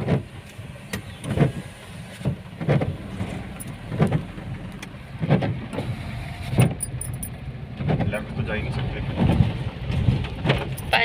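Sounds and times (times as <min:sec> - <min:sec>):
low rumble of moving car: 0:00.0 - 0:11.0
windscreen wipers sweeping: 0:00.0 - 0:11.0.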